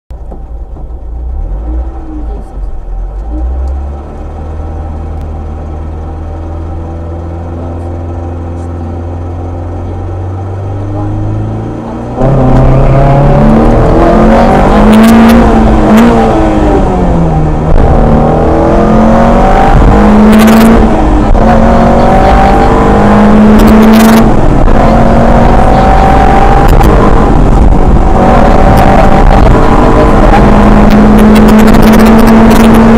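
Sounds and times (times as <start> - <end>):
rally car engine revving: 0.2 - 32.9.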